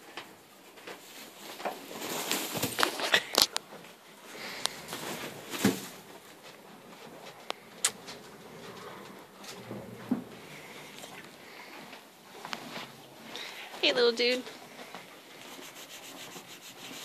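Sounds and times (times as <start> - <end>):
straw rustling and crackling: 0.1 - 17.0.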